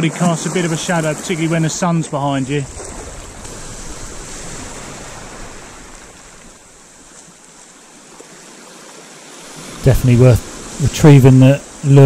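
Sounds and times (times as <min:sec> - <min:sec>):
waves washing over rocks: 0:00.0 - 0:12.0.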